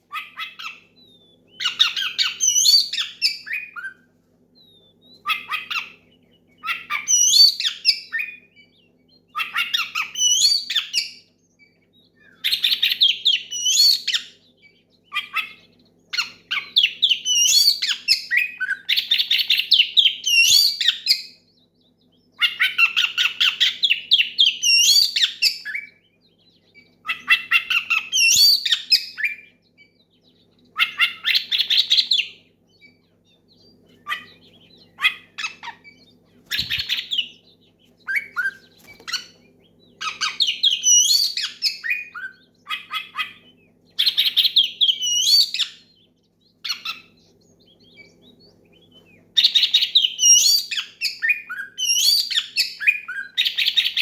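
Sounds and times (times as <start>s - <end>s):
bird singing whistles and chattering: 0.1s - 4.0s, 4.6s - 54.0s.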